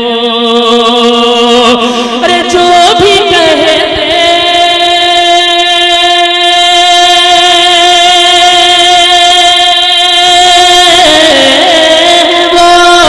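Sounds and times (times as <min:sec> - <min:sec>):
man singing through loudspeakers: 0:00.0 - 0:13.0.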